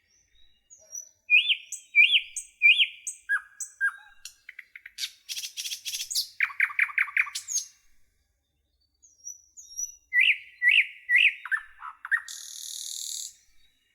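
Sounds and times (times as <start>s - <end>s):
nightingale singing: 0.0s - 7.8s, 8.9s - 13.9s.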